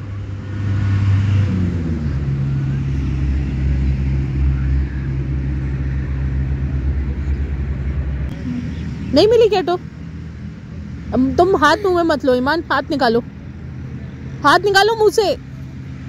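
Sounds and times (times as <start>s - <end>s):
motor engine running: 0.0s - 16.0s.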